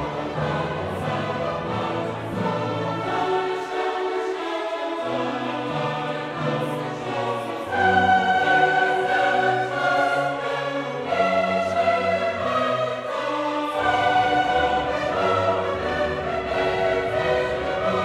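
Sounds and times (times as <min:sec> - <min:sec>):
choir singing sustained notes: 0:00.0 - 0:18.0.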